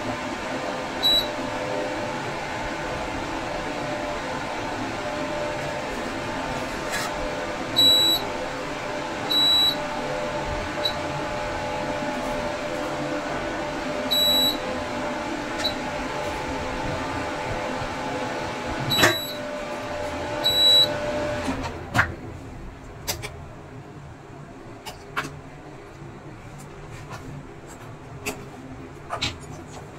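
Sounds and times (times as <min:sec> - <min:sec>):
cooktop fan humming: 0:00.0 - 0:29.9.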